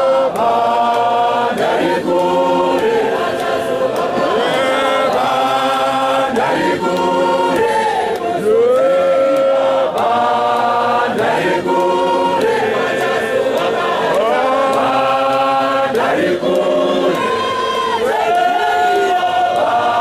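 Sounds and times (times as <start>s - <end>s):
men's choir singing a hymn: 0.0s - 20.0s.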